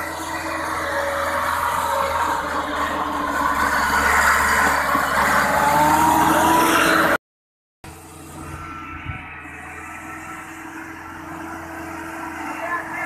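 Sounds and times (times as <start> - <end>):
tractor diesel engine revving: 0.0 - 7.2, 7.8 - 13.0.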